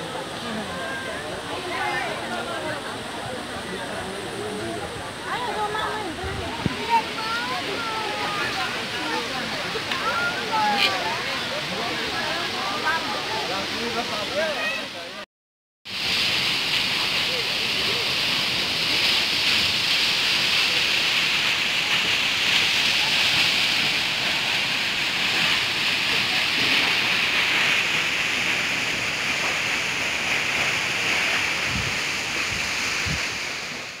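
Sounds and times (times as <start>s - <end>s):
waterfall rushing hiss: 0.0s - 15.2s, 15.9s - 34.0s.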